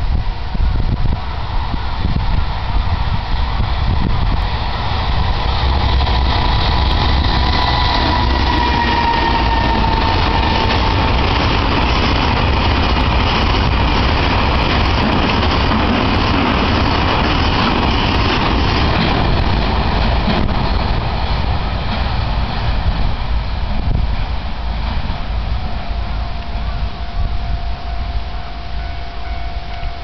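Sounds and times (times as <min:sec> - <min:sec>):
electric locomotive whine: 0:00.0 - 0:30.0
freight train rolling past: 0:00.0 - 0:30.0.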